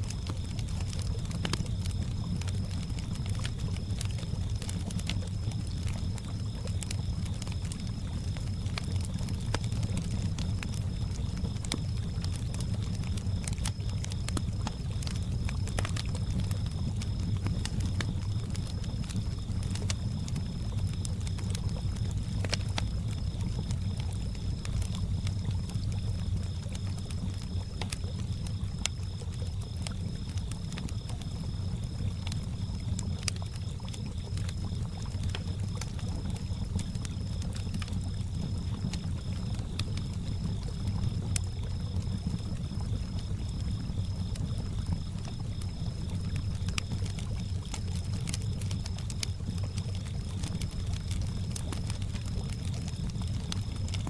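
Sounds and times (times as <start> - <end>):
campfire crackling: 0.0 - 54.0
cricket chirping: 0.0 - 54.0.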